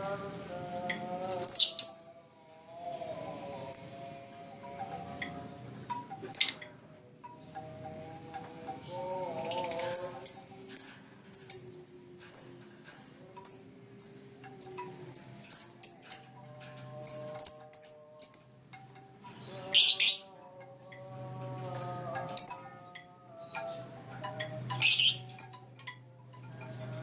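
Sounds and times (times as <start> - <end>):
bird chirping: 0.6 - 2.2, 2.8 - 27.0.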